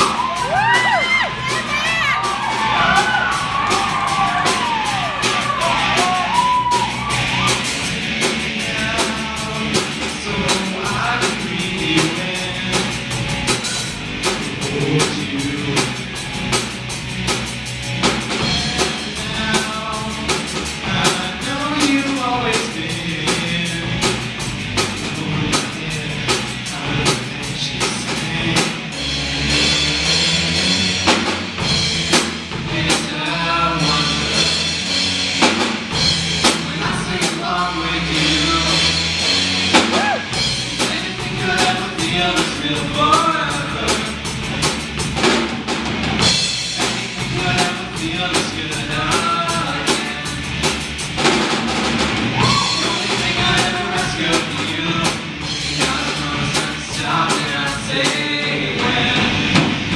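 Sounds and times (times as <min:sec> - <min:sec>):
drum kit beat: 0:00.0 - 0:59.9
rock band playing: 0:00.0 - 0:59.9.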